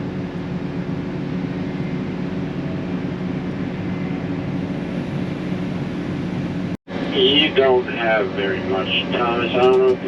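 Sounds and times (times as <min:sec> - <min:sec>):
diesel engine droning under load: 0:00.0 - 0:10.0.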